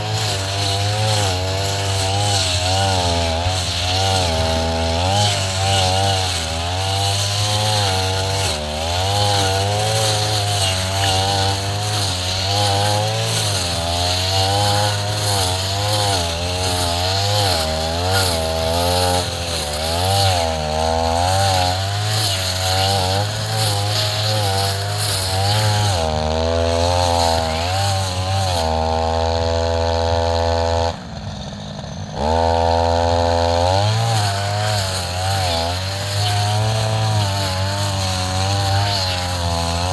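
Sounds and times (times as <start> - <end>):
brush cutter running: 0.0 - 39.9.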